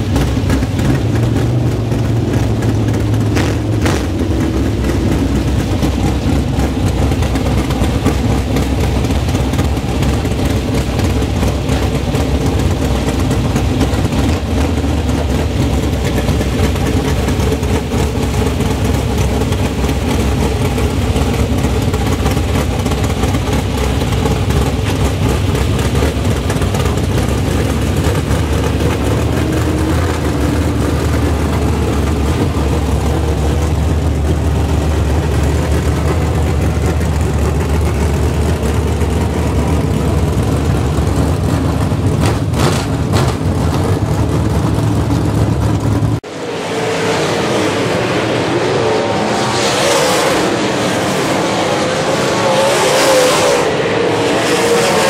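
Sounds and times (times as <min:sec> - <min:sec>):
race car engine idling: 0:00.0 - 0:46.5.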